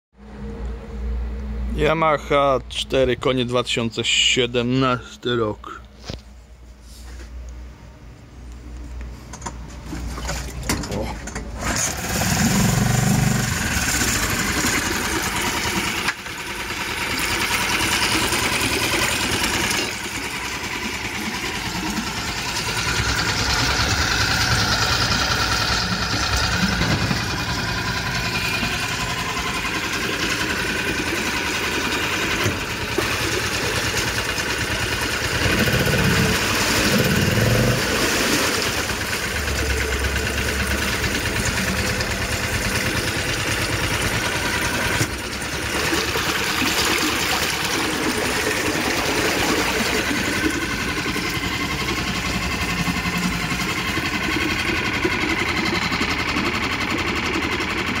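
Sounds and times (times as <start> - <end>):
outboard motor running: 8.0 - 58.0
propeller churning water: 9.3 - 58.0.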